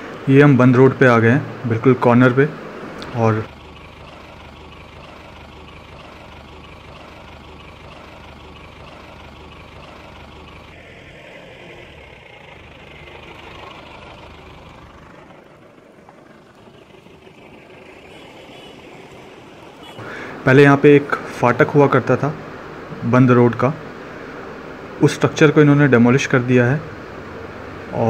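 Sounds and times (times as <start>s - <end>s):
road noise: 0.0s - 28.0s
vehicle engine humming: 0.0s - 28.0s.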